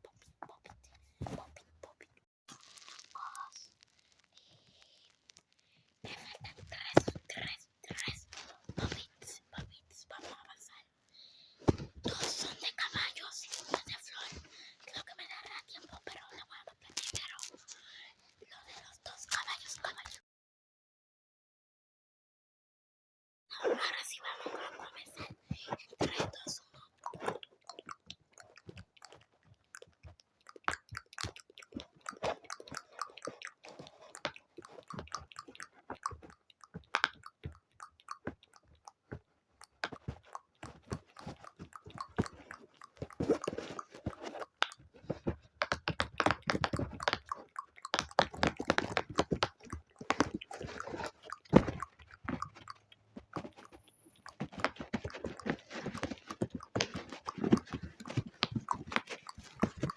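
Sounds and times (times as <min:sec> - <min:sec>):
wet mouth clicks and smacks: 0:01.8 - 0:10.8, 0:11.8 - 0:20.2, 0:24.0 - 0:59.9.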